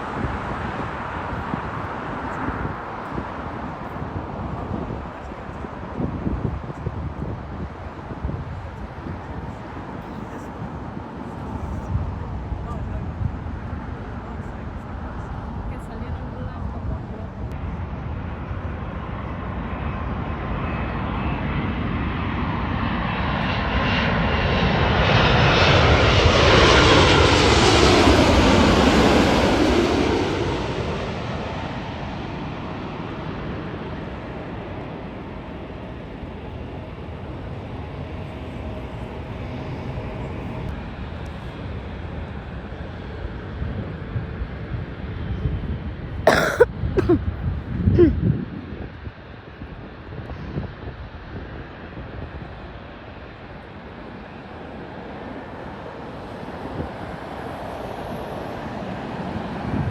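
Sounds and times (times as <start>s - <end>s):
jet airliner flying past: 0.0s - 46.2s, 47.7s - 59.9s.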